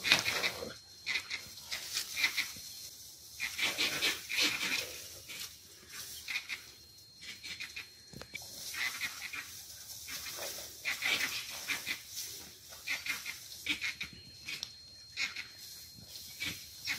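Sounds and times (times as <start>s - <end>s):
high-pitched chattering animal calls: 0.0s - 16.9s.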